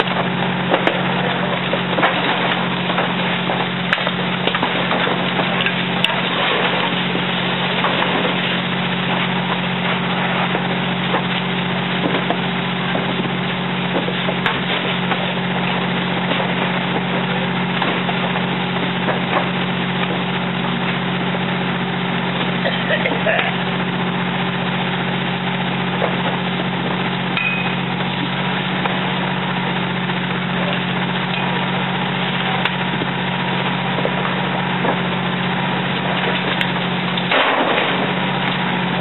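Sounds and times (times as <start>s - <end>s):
burning wood crackling: 0.0s - 39.0s
fire engine hum: 0.0s - 39.0s
fire roaring: 0.0s - 39.0s.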